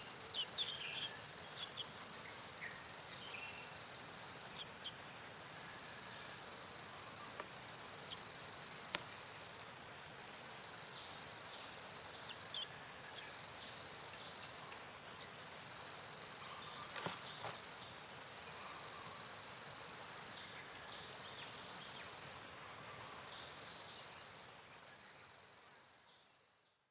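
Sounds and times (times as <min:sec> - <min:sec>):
insect chorus buzzing: 0:00.0 - 0:26.9.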